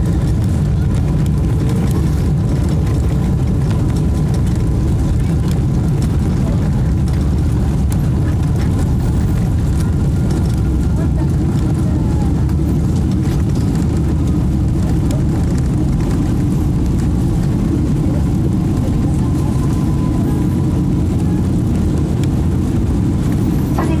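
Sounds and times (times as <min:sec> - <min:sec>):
aircraft cabin rumble: 0:00.0 - 0:24.0.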